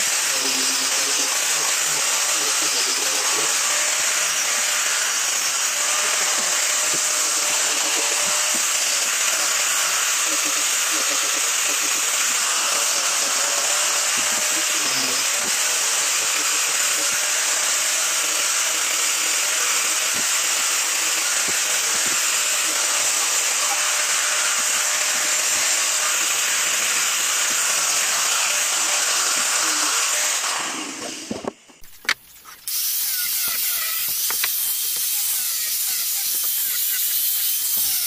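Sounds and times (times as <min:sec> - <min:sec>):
angle grinder sanding wood: 0:00.0 - 0:38.0.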